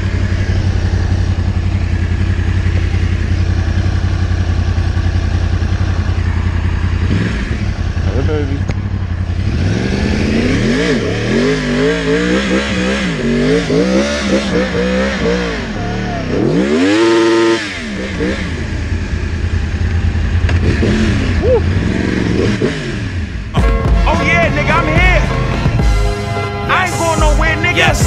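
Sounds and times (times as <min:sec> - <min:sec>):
motorcycle engine revving: 0:00.0 - 0:26.2.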